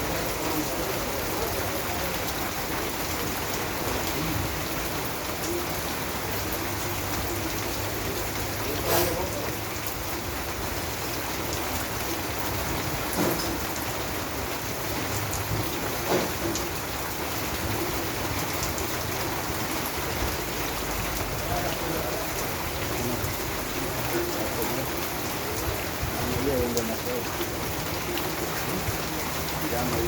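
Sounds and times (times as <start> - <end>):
loud raindrops striking: 0.0 - 30.0
steady rain hiss: 0.0 - 30.0.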